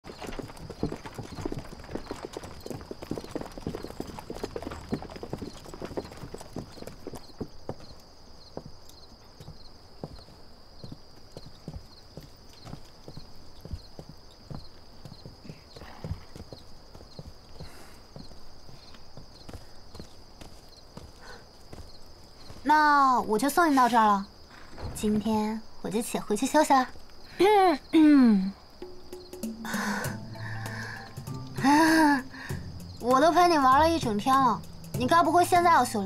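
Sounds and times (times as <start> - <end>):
horse hooves clopping: 0.0 - 23.6, 28.8 - 36.0.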